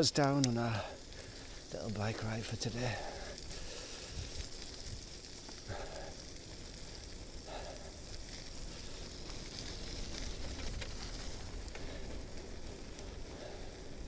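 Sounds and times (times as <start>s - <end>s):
bicycle tyres on wet gravel: 0.0s - 14.0s.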